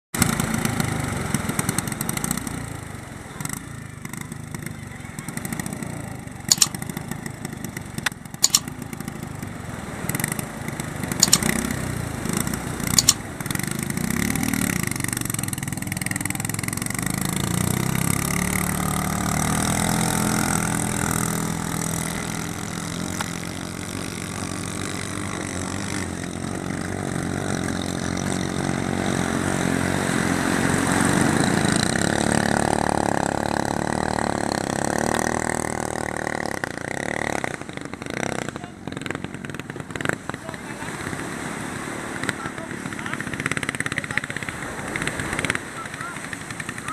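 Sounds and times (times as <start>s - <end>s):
small boat engine running: 0.2s - 46.9s.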